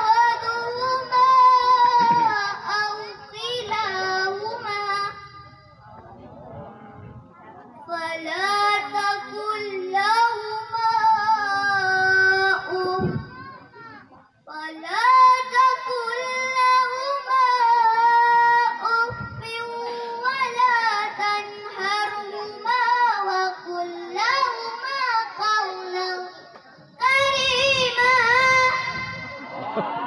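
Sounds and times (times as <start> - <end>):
girl chanting melodically: 0.0 - 5.6, 7.4 - 29.4.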